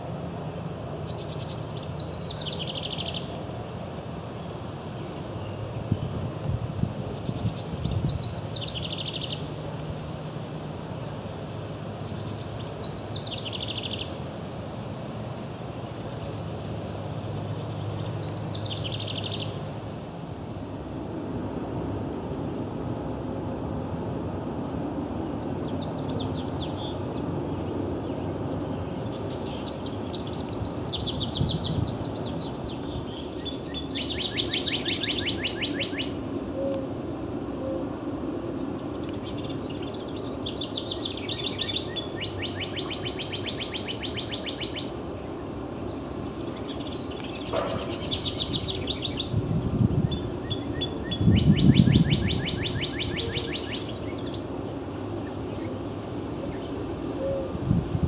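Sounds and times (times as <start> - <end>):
birds singing with trills: 0.0 - 58.0.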